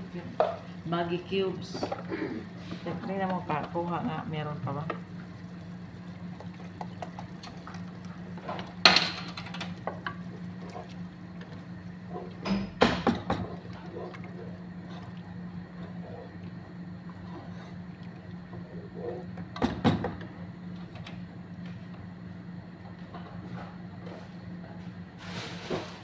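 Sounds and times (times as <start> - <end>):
low kitchen hum: 0.0 - 26.0.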